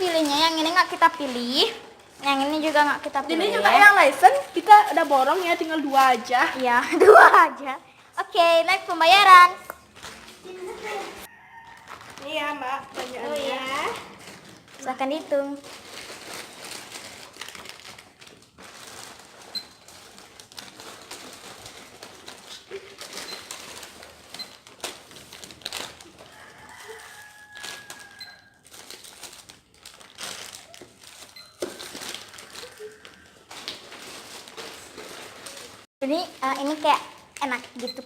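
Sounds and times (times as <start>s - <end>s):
plastic packaging rustling: 0.0s - 38.0s.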